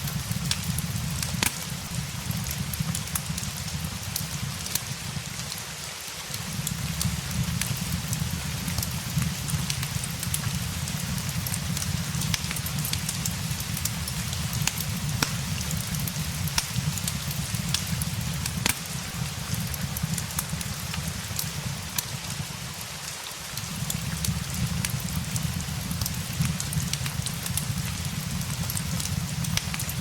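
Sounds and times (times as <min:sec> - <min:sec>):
log fire crackling: 0:00.0 - 0:30.0
rain falling: 0:00.0 - 0:30.0.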